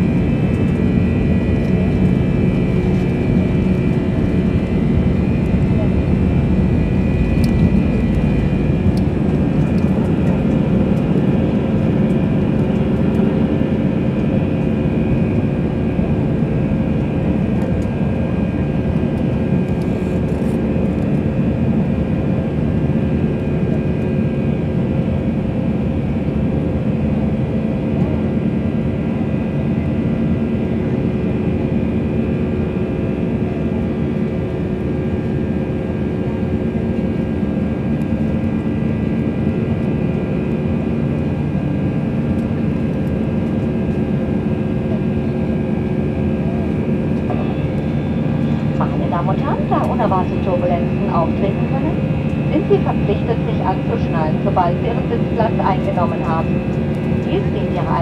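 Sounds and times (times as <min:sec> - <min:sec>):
jet engines roaring: 0:00.0 - 0:26.6, 0:37.4 - 0:58.0.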